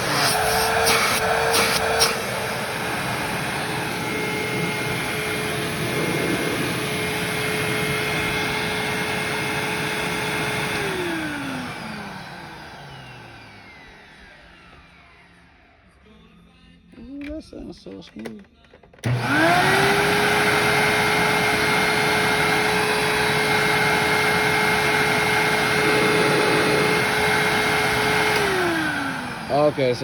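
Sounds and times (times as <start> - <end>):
vacuum cleaner motor running: 0.0 - 16.0, 19.0 - 30.0.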